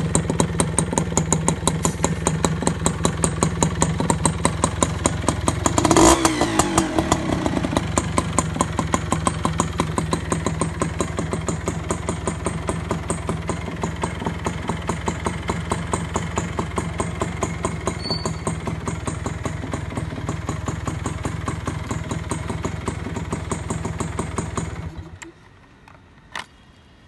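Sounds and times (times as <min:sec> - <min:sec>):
motorcycle engine idling: 0:00.0 - 0:25.3.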